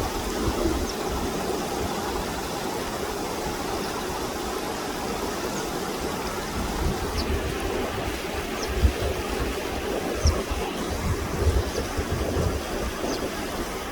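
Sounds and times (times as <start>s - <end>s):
water rushing: 0.0s - 13.9s.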